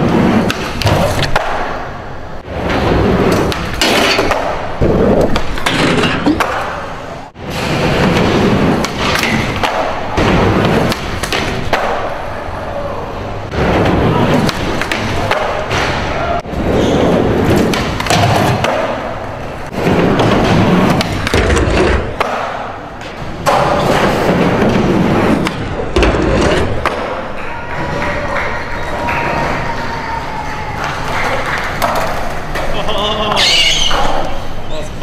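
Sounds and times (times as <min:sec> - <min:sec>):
skateboard wheels rolling on concrete: 0:00.0 - 0:12.3, 0:13.5 - 0:34.6.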